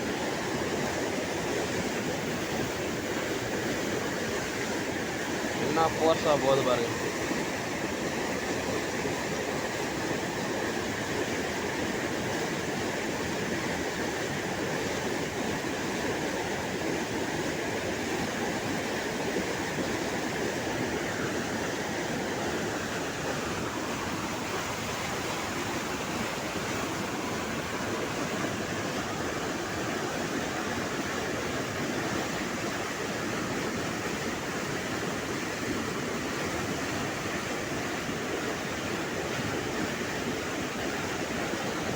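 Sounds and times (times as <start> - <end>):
river rushing: 0.0 - 41.9.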